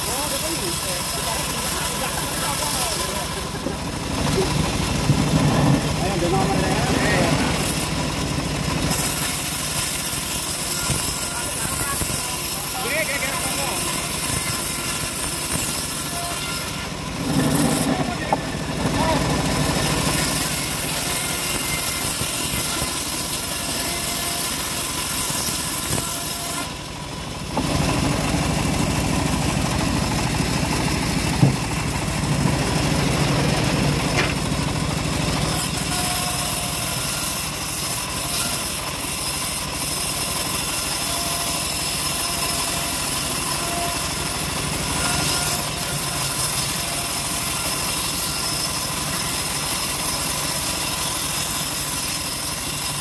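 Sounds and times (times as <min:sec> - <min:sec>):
bandsaw sawmill engine running: 0:00.0 - 0:53.0.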